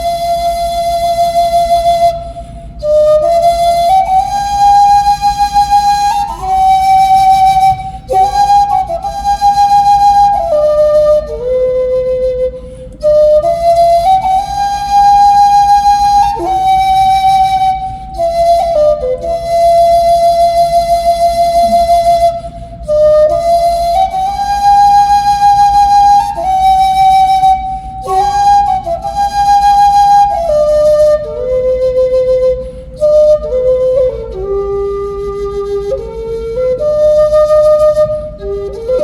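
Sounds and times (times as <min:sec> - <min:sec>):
solo flute melody: 0:00.0 - 0:39.0.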